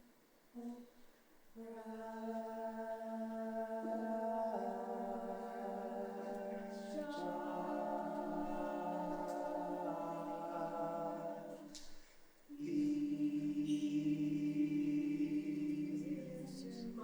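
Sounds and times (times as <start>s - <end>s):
a cappella choir singing: 1.6s - 17.0s.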